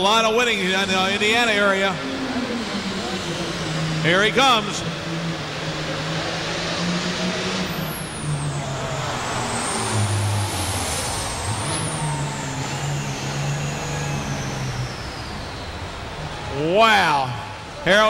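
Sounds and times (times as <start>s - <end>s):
tractor diesel engine under load: 0.0s - 18.0s
turbocharger whine: 0.0s - 18.0s.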